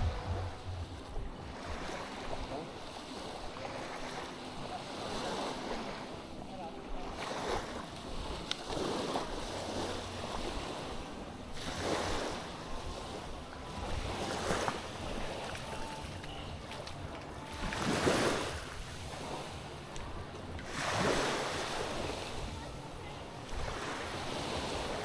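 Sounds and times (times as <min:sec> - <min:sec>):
small waves breaking on a beach: 0:00.0 - 0:25.0.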